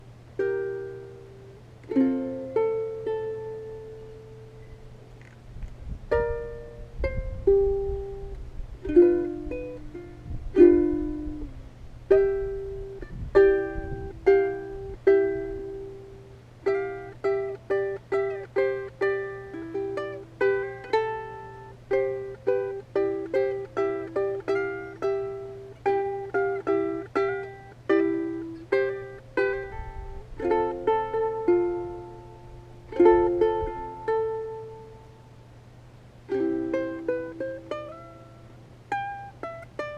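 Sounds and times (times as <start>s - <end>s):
plucked string instrument melody: 0.0s - 5.4s, 6.0s - 39.9s.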